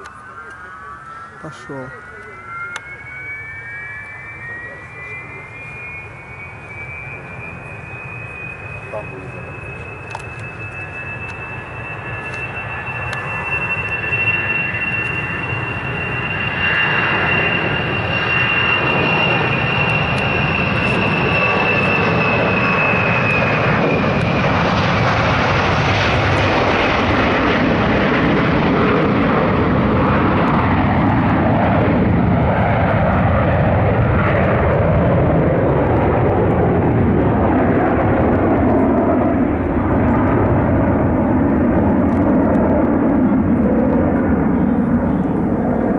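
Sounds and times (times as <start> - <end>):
high jet engine whine: 0.0 - 45.9
jet engines roaring: 0.0 - 45.9.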